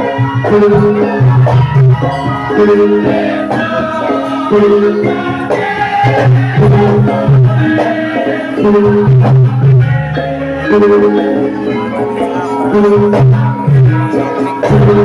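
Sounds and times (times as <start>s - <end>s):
traditional dance music: 0.0s - 15.0s.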